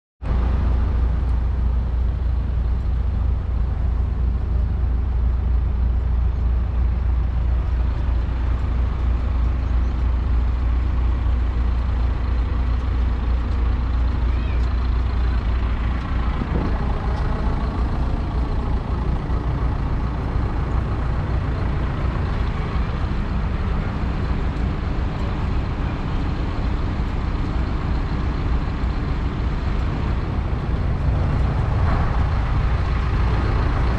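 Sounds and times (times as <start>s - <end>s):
tractor diesel engine running: 0.3s - 33.9s.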